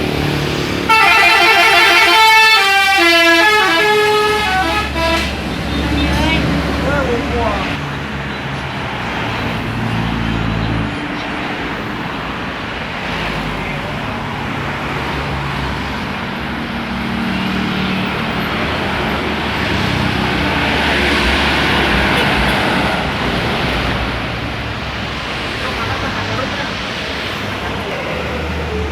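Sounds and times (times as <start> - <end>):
large vehicles passing: 0.0 - 28.9.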